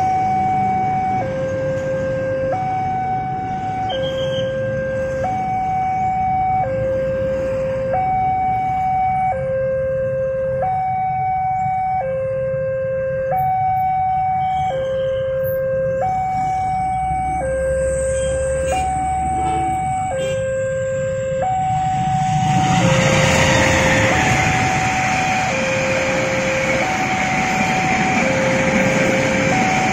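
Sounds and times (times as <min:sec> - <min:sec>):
two-tone crossing alarm: 0:00.0 - 0:29.9.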